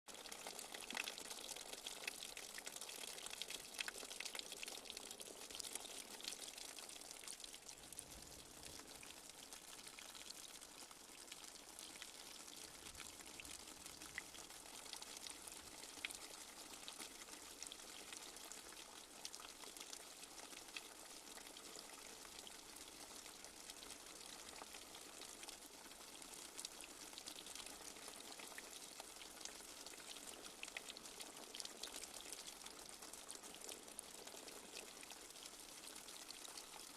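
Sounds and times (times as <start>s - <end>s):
light rain falling: 0.1s - 36.9s.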